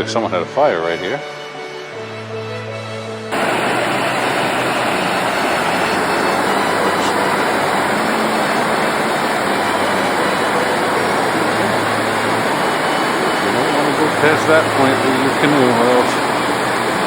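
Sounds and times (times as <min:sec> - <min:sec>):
water rushing over falls: 0:03.3 - 0:17.0.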